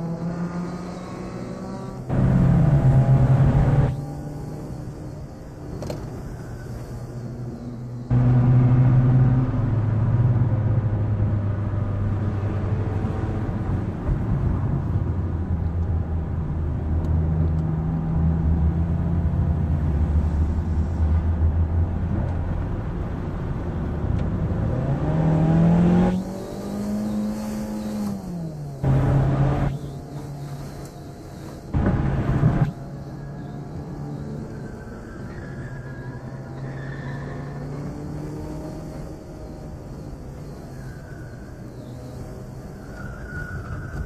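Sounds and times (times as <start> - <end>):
car engine droning: 0.0 - 44.0
road noise: 0.0 - 44.0.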